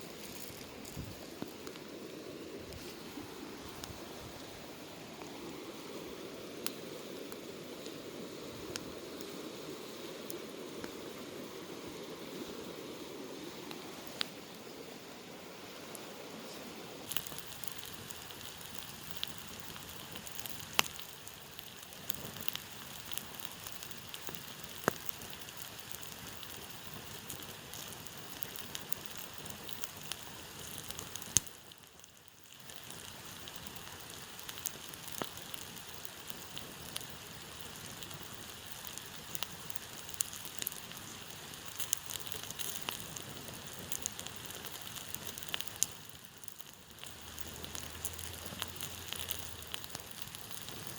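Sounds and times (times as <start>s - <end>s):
campfire crackling and popping: 0.0s - 50.9s.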